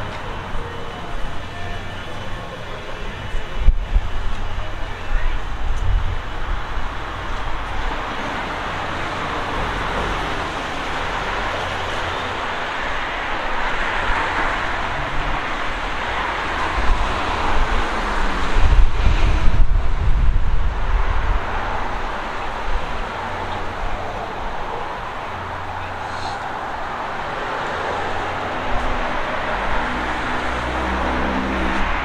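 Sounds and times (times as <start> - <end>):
city street traffic hiss: 0.0 - 32.0
wind buffeting microphone: 0.0 - 32.0.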